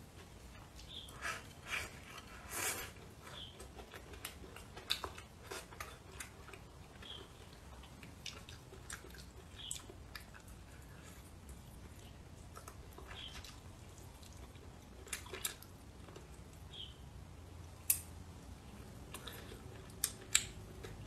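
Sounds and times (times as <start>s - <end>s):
person chewing food: 0.5s - 16.6s, 18.6s - 21.0s.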